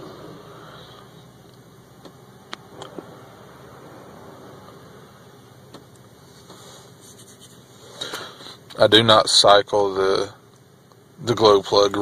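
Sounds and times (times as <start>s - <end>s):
steady low hum in cab: 0.0s - 12.0s.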